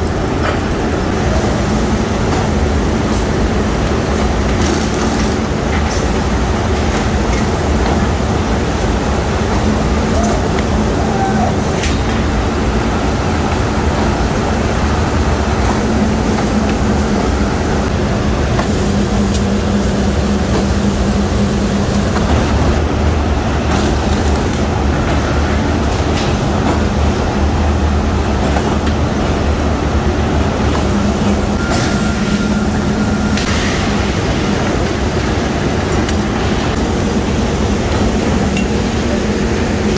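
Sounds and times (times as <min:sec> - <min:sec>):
rolling mill drone: 0:00.0 - 0:39.9.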